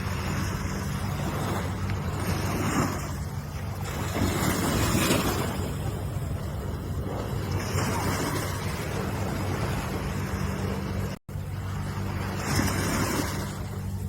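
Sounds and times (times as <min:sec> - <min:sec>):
ocean waves washing: 0:00.0 - 0:14.0
steady low hum: 0:00.0 - 0:14.0.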